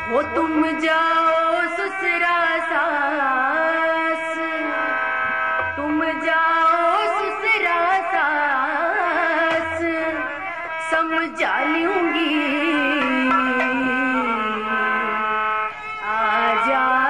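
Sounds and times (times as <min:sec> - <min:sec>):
woman singing: 0:00.0 - 0:05.0, 0:05.6 - 0:15.3, 0:15.9 - 0:17.0
instruments holding steady notes: 0:00.0 - 0:17.0.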